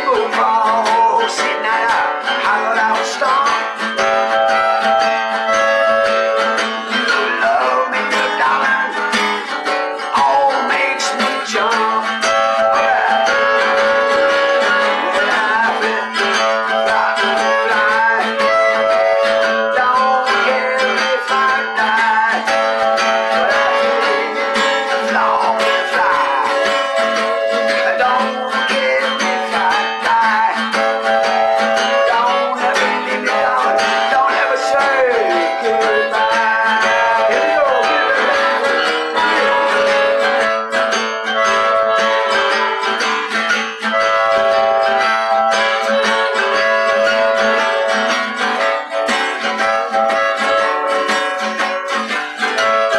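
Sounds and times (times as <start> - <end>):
blues harmonica: 0.0 - 52.9
strummed acoustic guitar: 0.0 - 52.9.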